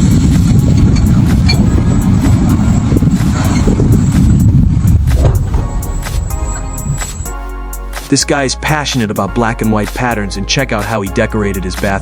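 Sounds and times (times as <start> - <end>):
excavator diesel engines rumbling: 0.0 - 10.8.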